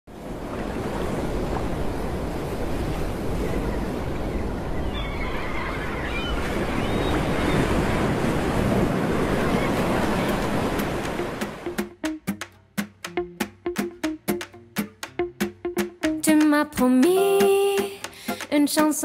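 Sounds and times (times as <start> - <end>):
ocean surf washing in: 0.1 - 4.8, 5.5 - 16.4, 17.0 - 19.0.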